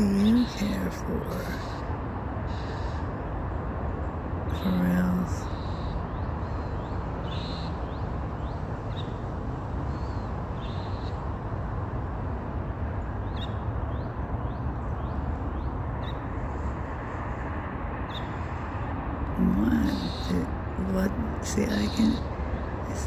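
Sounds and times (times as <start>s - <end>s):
birds high call notes: 0.0s - 3.2s, 4.5s - 11.2s, 13.2s - 16.7s, 18.0s - 23.0s.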